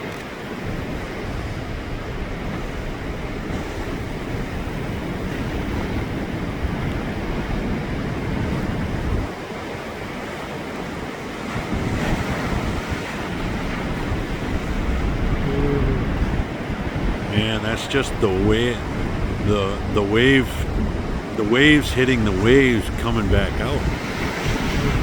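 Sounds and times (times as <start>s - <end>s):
waves crashing against shore: 0.0s - 25.0s
wind buffeting microphone: 0.0s - 25.0s.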